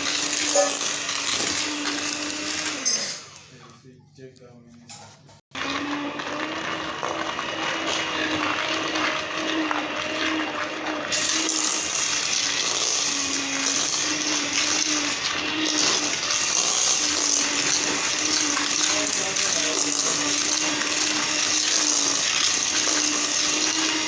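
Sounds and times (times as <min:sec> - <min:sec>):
electric mixer beating batter: 0:00.0 - 0:03.7, 0:05.5 - 0:24.0.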